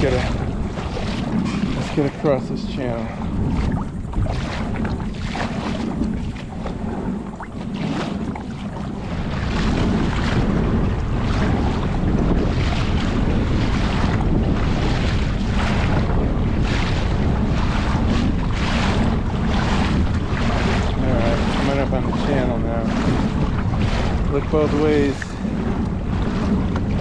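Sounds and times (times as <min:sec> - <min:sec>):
paddle strokes splashing water: 0:00.0 - 0:27.0
wind buffeting microphone: 0:00.0 - 0:27.0.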